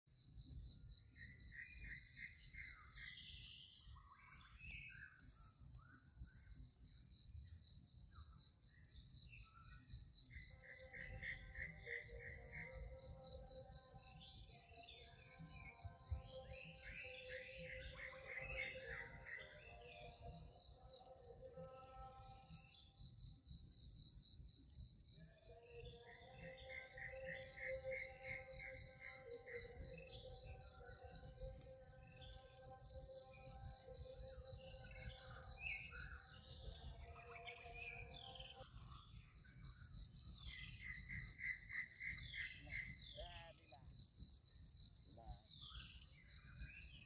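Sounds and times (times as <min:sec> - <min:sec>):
faint insect chirps: 0:00.1 - 0:47.0
insects trilling: 0:00.2 - 0:47.0.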